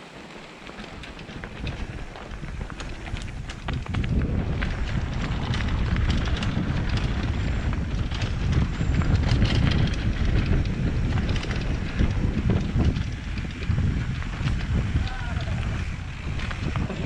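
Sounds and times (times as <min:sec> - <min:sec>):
bike tyres rumbling on rocky trail: 0:00.0 - 0:17.0
stones and bike rattling: 0:00.0 - 0:17.0
wind buffeting microphone: 0:00.0 - 0:17.0.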